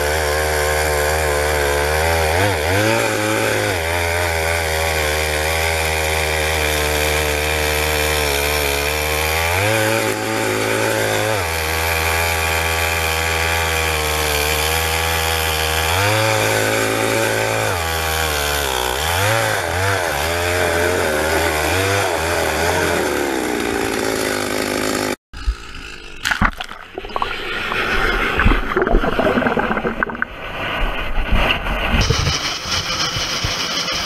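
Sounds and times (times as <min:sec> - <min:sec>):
ice auger engine running: 0:00.0 - 0:26.4, 0:32.0 - 0:34.0.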